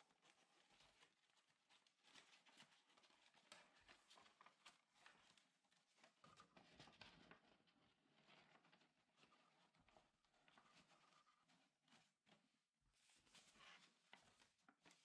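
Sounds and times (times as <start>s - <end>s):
paper rustling and tapping: 0.1s - 15.0s.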